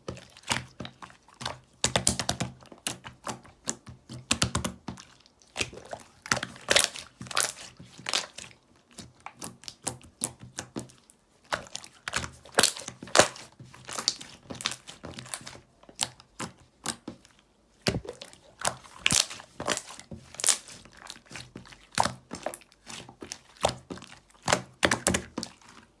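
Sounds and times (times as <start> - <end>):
slime squished by hand: 0.0 - 26.0.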